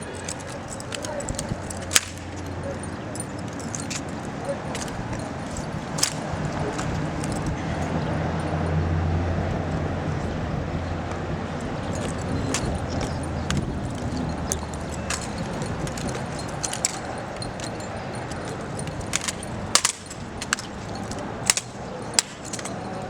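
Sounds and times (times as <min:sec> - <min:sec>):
rifles clacking and hand slaps: 0:00.0 - 0:08.6, 0:11.1 - 0:23.0
low outdoor rumble: 0:00.0 - 0:23.0.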